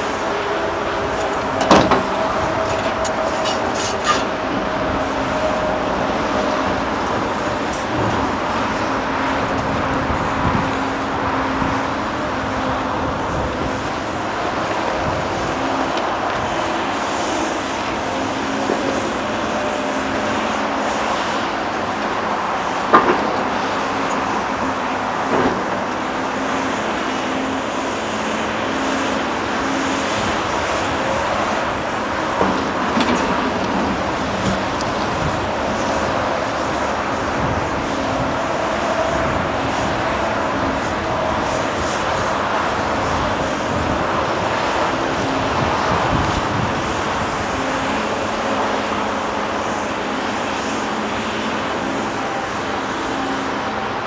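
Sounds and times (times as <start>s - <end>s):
excavator diesel engine running: 0.0s - 54.0s
motorway traffic: 0.0s - 54.0s.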